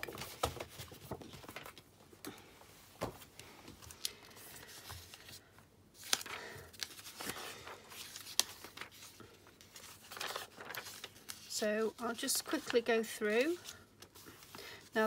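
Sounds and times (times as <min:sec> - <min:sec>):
paper rustling: 0:00.0 - 0:01.9, 0:03.1 - 0:14.9.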